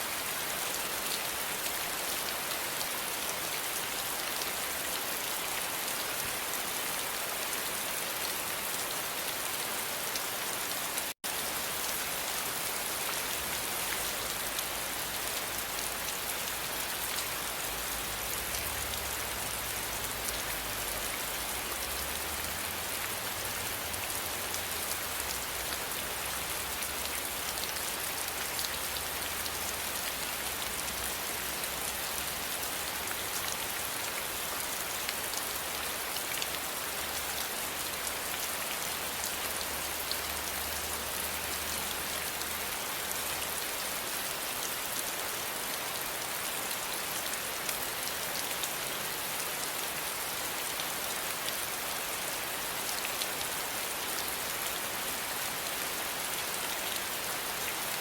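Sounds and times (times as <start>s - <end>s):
dense rain pattering: 0.0s - 58.0s.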